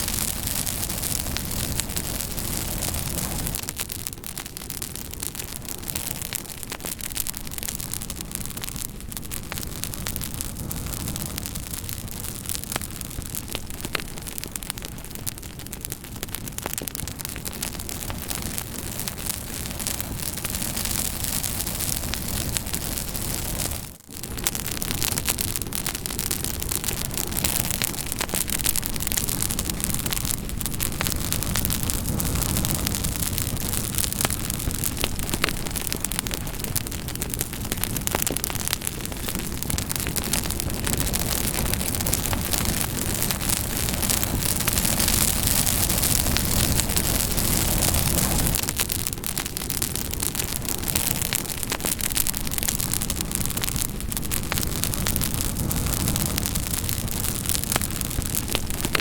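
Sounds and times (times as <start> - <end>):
campfire crackling and hissing: 0.0 - 59.0.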